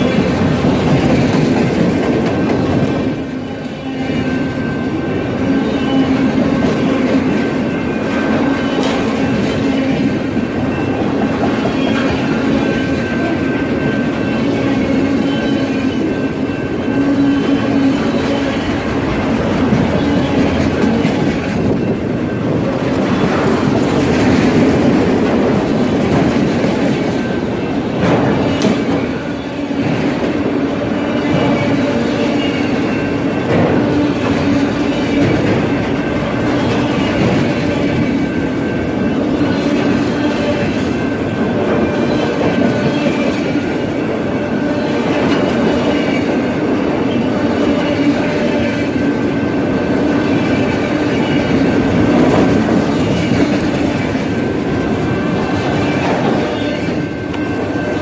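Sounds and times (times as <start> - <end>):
train clanks: 0.0 - 58.0
train wheels rumbling on rails: 0.0 - 58.0.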